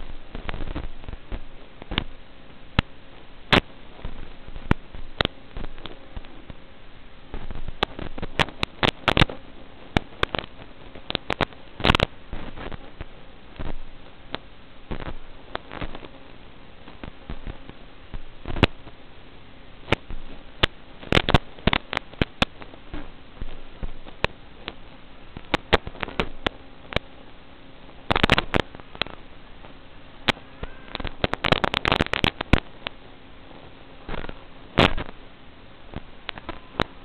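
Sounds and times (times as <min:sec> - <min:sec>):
static hiss and crackling pops: 0:00.0 - 0:37.0.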